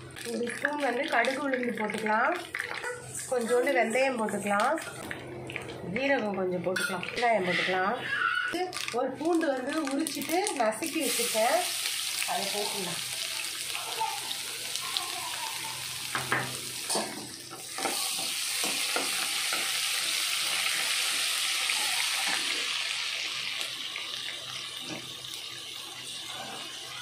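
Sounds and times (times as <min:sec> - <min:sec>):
spices sizzling in hot oil: 0:00.0 - 0:05.1, 0:06.8 - 0:27.0.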